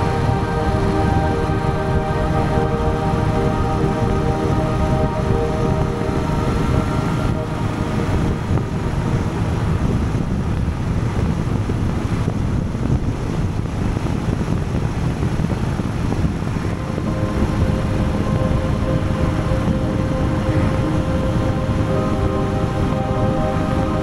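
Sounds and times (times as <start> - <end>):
motorcycle engine droning: 0.0 - 24.0
wind rushing over microphone: 0.0 - 24.0.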